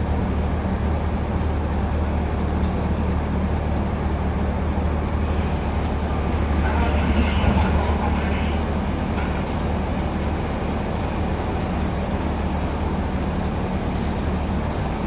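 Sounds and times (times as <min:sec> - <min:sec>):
tram rumble and hum: 0:00.0 - 0:15.0.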